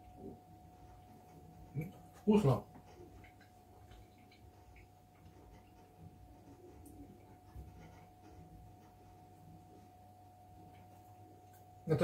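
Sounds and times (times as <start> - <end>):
thin steady whine: 0.0 - 12.0.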